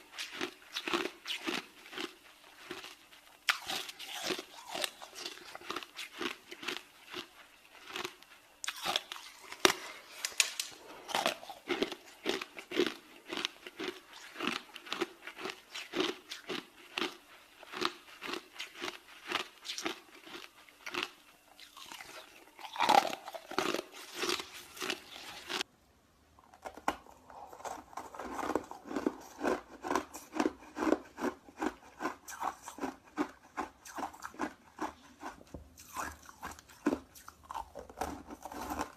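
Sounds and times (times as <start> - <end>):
person chewing ice: 0.0 - 25.7, 26.4 - 38.9.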